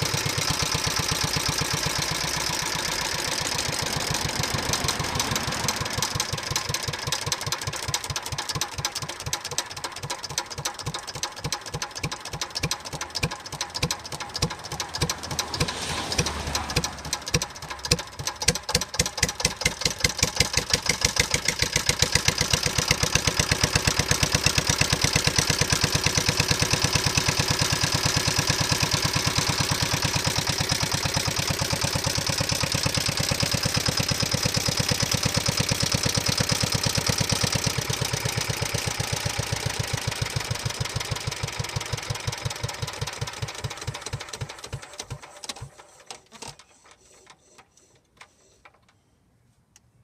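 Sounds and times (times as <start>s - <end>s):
diesel engine running: 0.0s - 45.2s.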